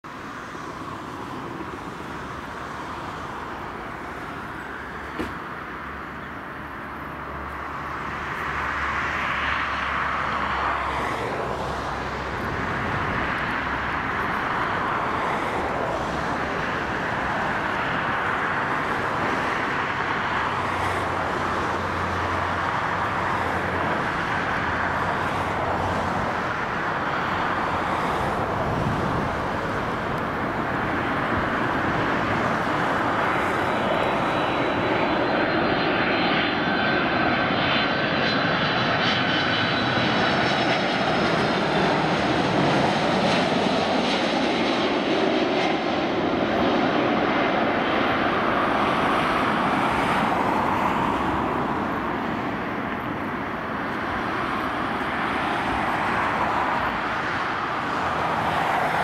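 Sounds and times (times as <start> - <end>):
jet airliner rushing overhead: 0.0 - 59.0.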